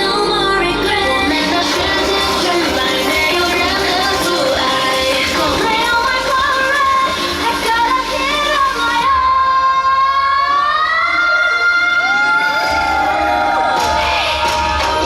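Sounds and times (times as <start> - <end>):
pop music with female singing: 0.0 - 15.0.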